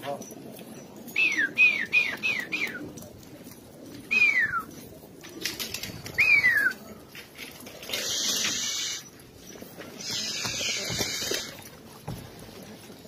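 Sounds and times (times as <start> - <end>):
pigeons cooing: 0.0 - 13.0
pigeons flapping wings: 0.6 - 9.0, 9.6 - 13.0.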